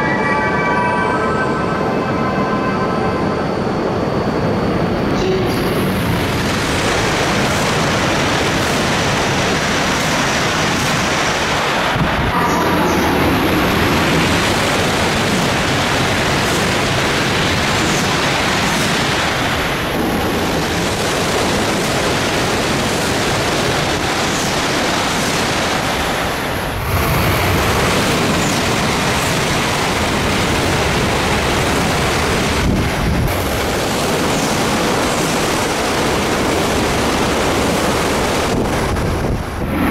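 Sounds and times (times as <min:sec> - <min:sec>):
high-speed train rushing past: 0:00.0 - 0:39.9.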